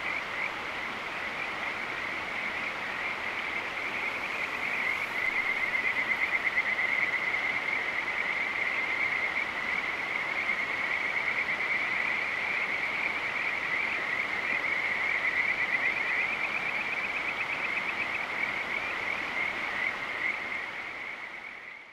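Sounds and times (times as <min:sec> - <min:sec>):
steady hiss: 0:00.0 - 0:21.8
frogs calling: 0:00.0 - 0:21.9.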